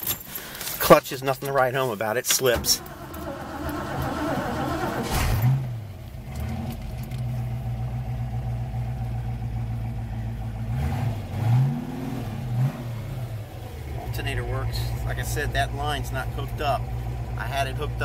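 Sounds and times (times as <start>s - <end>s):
car engine idling and revving: 2.5s - 18.0s.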